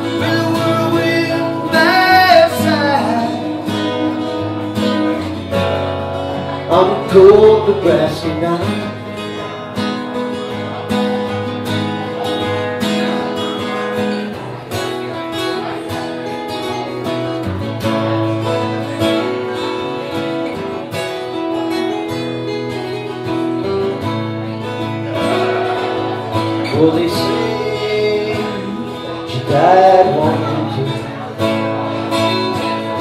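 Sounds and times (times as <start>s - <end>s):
acoustic guitars strummed and picked: 0.0s - 33.0s.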